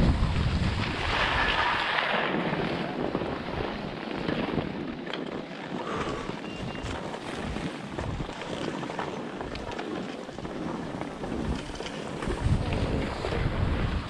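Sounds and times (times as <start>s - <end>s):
skis scraping on snow: 0.0s - 14.0s
wind rushing over microphone: 0.0s - 14.0s.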